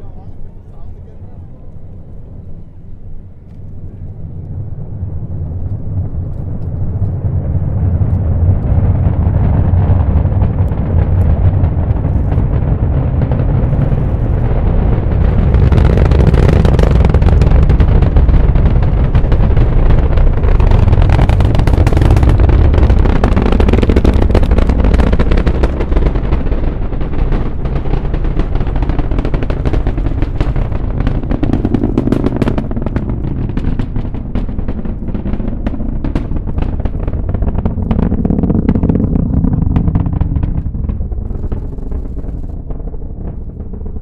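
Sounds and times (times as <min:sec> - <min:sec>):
distant rocket engine rumble: 0:00.0 - 0:44.0
sharp crackles: 0:00.0 - 0:44.0.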